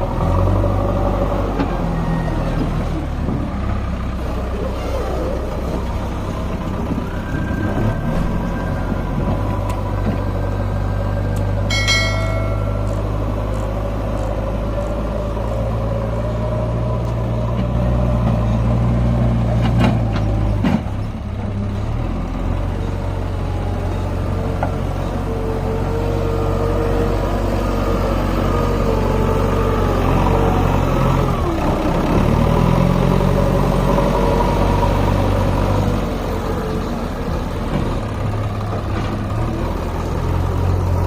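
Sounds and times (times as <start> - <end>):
diesel engine working under load: 0.0 - 41.0.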